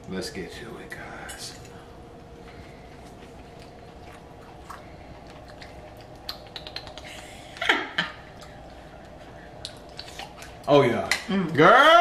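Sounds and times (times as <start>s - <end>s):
people chewing food: 0.9s - 11.7s.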